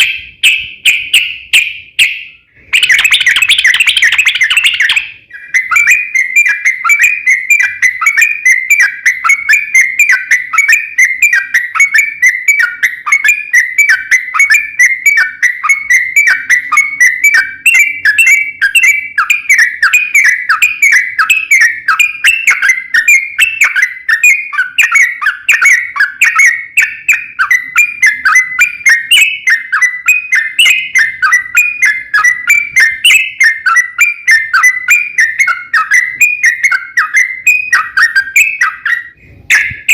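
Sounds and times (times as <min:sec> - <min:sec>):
bulbul whistled chirps: 0:00.0 - 0:39.9.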